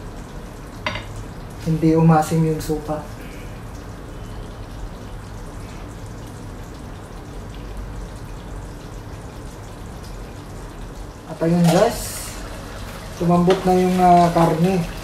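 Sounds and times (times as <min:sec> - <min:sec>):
stew bubbling and sizzling: 0:00.0 - 0:15.0.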